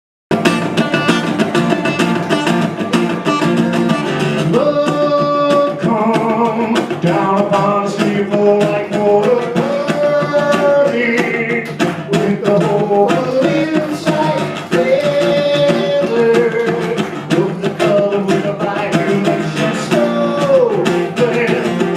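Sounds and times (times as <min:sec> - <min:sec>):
acoustic guitar strumming: 0:00.3 - 0:21.9
person singing: 0:04.3 - 0:21.9.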